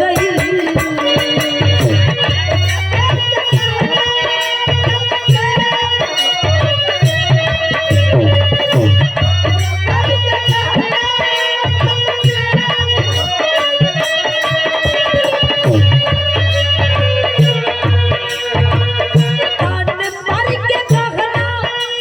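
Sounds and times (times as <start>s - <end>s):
hand drum beat: 0.0s - 21.6s.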